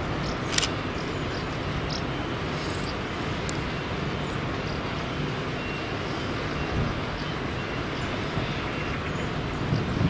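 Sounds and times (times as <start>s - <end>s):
distant locomotive engine drone: 0.0s - 10.0s.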